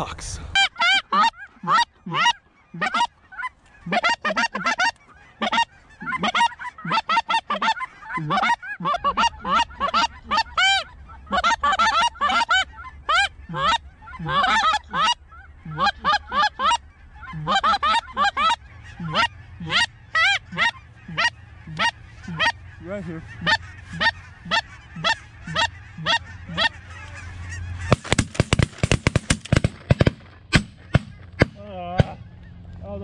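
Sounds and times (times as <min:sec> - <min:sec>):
geese honking: 0:00.0 - 0:33.0.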